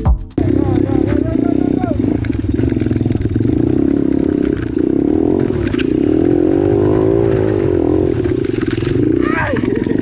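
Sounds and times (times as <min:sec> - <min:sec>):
off-road vehicle engine revving: 0:00.4 - 0:10.0.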